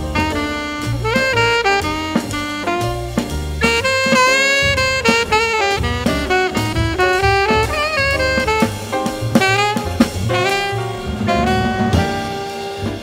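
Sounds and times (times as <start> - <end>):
drum kit: 0.0 - 13.0
saxophone solo: 0.0 - 13.0
walking double bass: 0.0 - 13.0.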